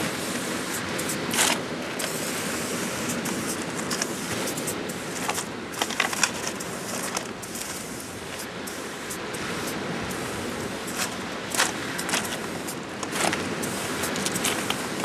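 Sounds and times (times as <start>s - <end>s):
spray-paint can hissing: 0.0s - 15.0s
steady rushing background noise: 0.0s - 15.0s.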